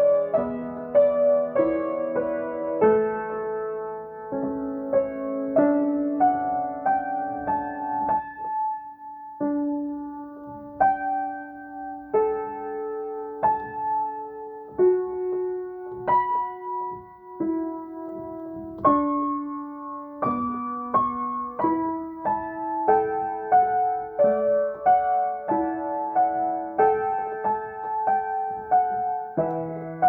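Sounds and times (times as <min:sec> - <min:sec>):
slow piano improvisation: 0:00.0 - 0:30.0.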